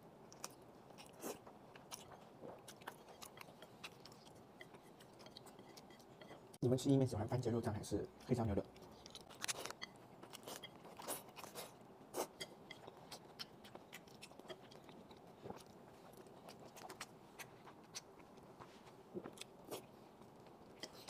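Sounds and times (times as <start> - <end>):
person chewing soft food: 0.0 - 6.6, 8.1 - 21.0.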